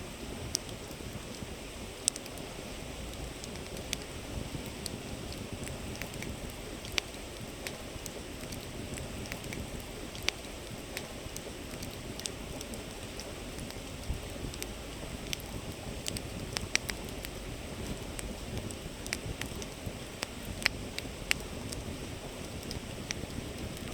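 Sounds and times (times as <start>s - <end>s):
wood fire crackling and popping: 0.4s - 23.9s.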